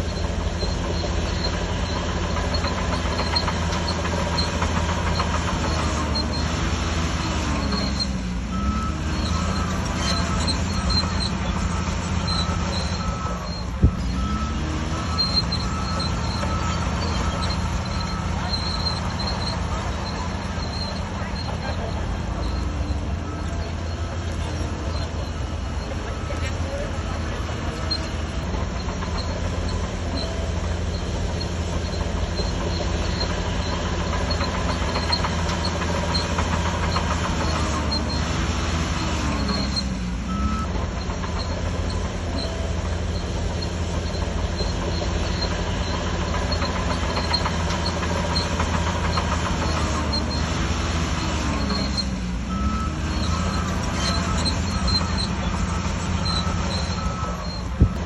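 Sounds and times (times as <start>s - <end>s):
steel tracks clattering: 0.0s - 6.6s, 9.0s - 58.0s
bulldozer diesel engine running: 0.0s - 58.0s.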